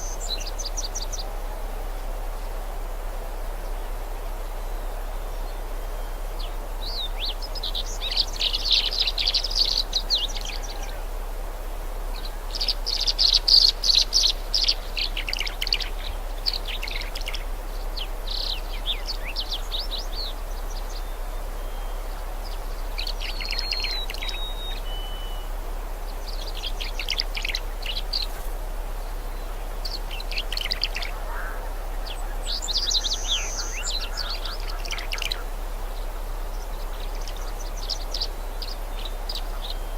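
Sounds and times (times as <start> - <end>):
faint background hiss: 0.0 - 39.9
songbirds chirping: 0.0 - 39.9.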